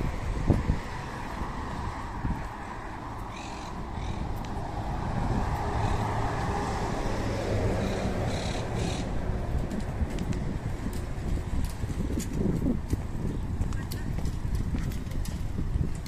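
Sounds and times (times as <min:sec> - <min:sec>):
street traffic: 0:00.0 - 0:16.0
vehicle engine humming: 0:00.0 - 0:16.0.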